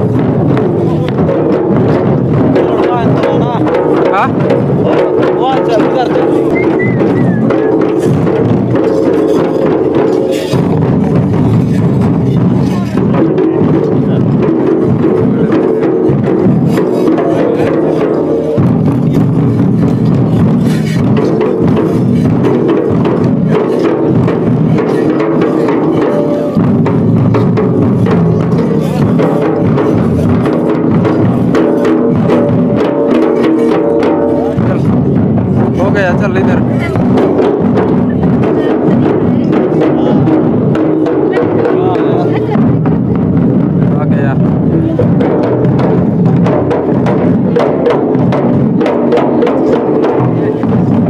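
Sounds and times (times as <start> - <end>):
fast drum strokes: 0.0 - 51.0.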